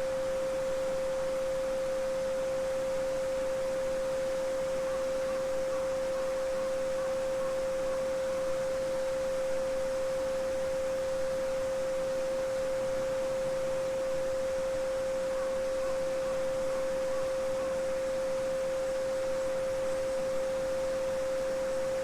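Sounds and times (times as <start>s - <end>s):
steady pure sine tone: 0.0s - 22.0s.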